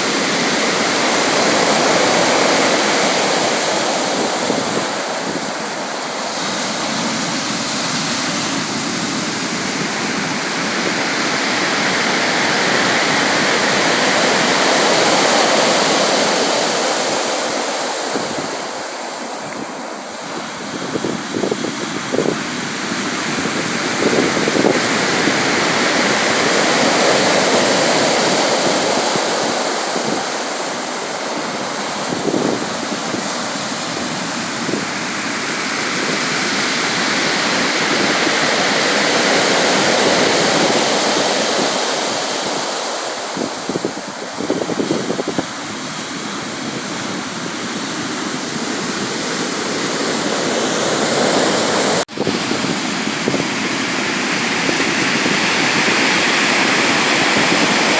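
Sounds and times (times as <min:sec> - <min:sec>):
waves washing ashore: 0:00.0 - 0:57.9.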